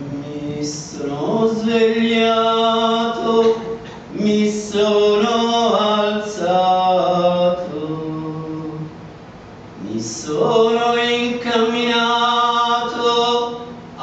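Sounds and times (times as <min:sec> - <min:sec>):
man singing: 0:00.0 - 0:09.0, 0:09.8 - 0:14.0.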